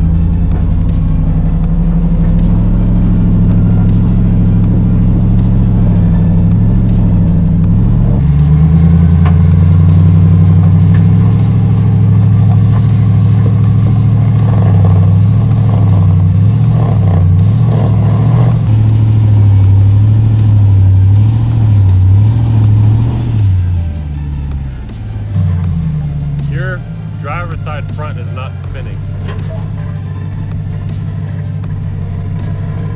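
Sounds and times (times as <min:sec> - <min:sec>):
truck engine revving under load: 0:00.0 - 0:32.9.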